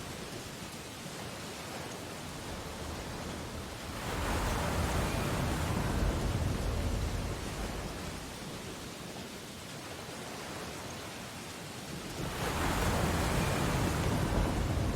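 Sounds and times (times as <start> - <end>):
ocean waves on a beach: 0.0 - 14.9.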